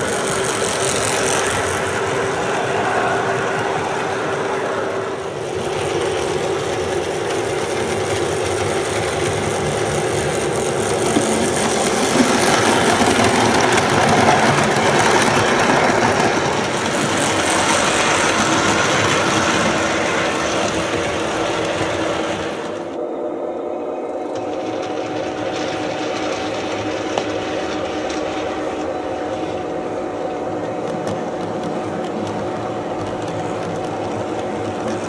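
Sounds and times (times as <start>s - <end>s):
model trains rolling on track: 0.0s - 35.0s.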